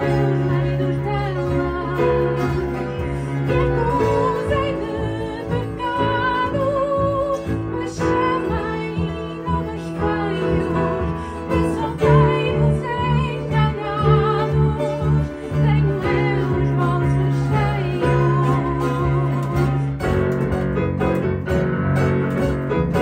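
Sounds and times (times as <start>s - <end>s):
woman singing: 0.0s - 20.1s
double bass: 0.0s - 23.0s
guitar: 0.0s - 23.0s.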